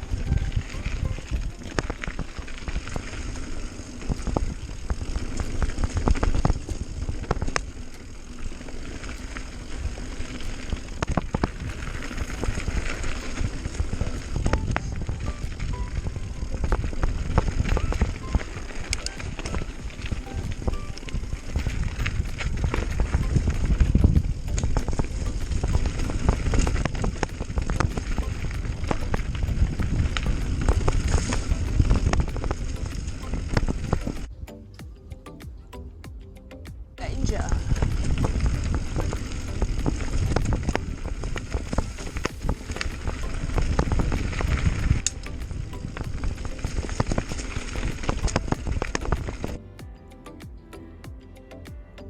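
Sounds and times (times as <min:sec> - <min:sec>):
bike clicking and rattling: 0:00.0 - 0:36.8, 0:37.6 - 0:49.9
wind and tyre rumble: 0:00.0 - 0:49.8.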